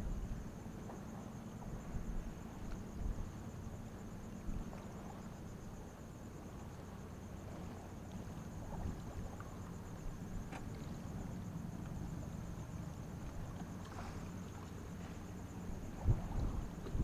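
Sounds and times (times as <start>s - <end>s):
high insect trill: 0.0s - 17.0s
low steady rumble: 0.0s - 17.0s.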